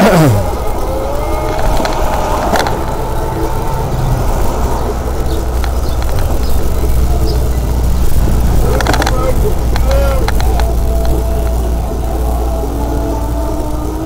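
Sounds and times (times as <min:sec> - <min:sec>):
bicycle rolling on street: 0:00.0 - 0:14.0.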